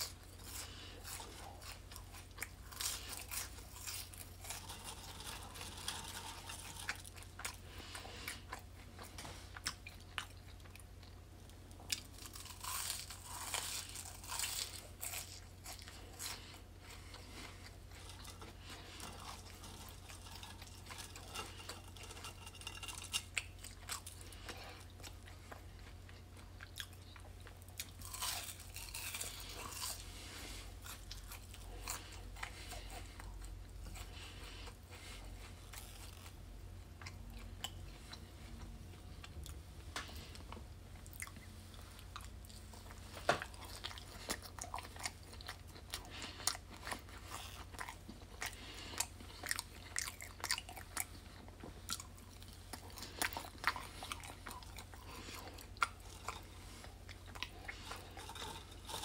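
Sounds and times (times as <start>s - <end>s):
crunchy food chewing: 0.0s - 59.0s
low steady hum: 0.0s - 59.0s.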